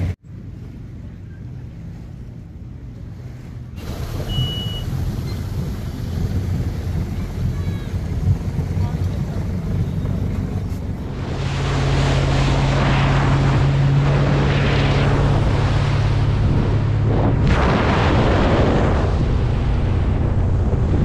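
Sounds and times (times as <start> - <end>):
boat engine hum: 0.0 - 21.0
water rushing past hull: 0.0 - 21.0
wind on microphone: 1.8 - 21.0.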